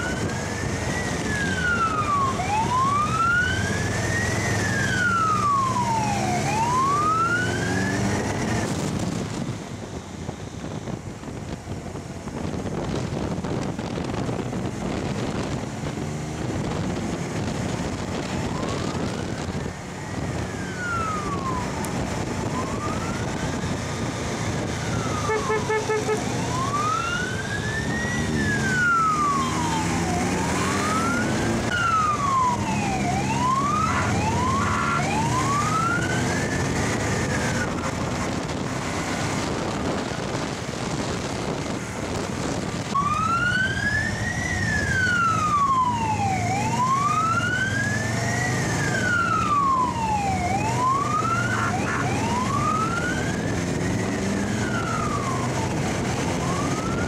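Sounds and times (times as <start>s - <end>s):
wailing siren: 0.0s - 10.0s, 16.4s - 57.0s
motorcycle engines running: 0.0s - 57.0s.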